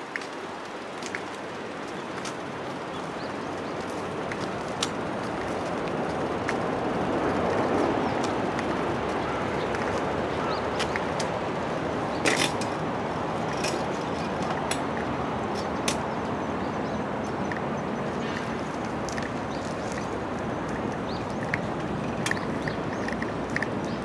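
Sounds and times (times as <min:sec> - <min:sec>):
distant traffic hum: 0:00.0 - 0:24.0.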